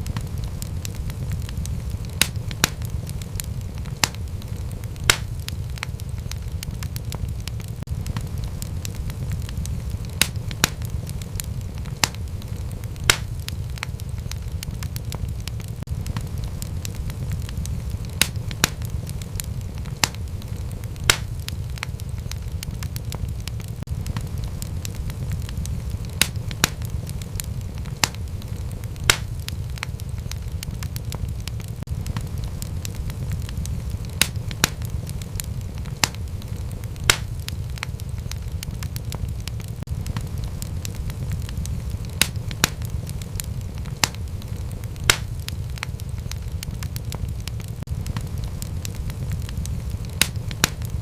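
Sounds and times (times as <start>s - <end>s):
fire popping loudly: 0.0s - 51.0s
wood fire crackling: 0.0s - 51.0s.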